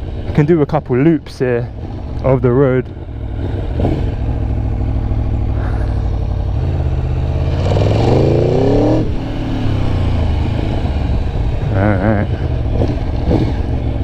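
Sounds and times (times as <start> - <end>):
motorcycle engine revving: 1.6 - 14.0.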